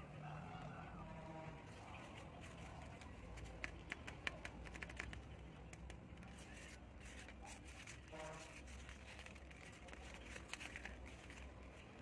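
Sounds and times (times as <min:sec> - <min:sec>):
paper claws clicking: 0:02.1 - 0:12.0.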